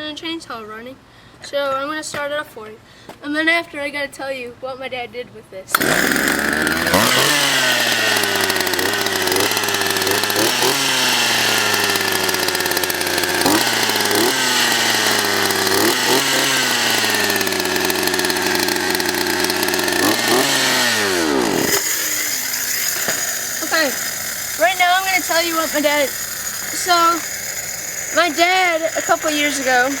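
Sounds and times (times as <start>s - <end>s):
chainsaw engine revving: 5.7s - 30.0s.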